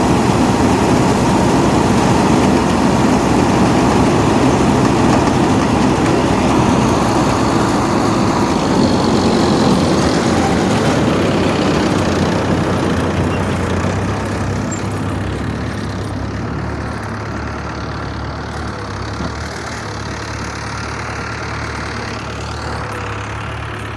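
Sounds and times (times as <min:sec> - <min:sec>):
broad mechanical noise: 0:00.0 - 0:23.9
harvester engine running: 0:00.0 - 0:23.9.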